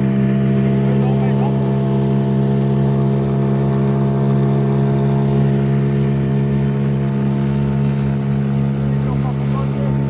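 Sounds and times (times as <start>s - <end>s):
boat outboard motor running: 0.0s - 10.0s.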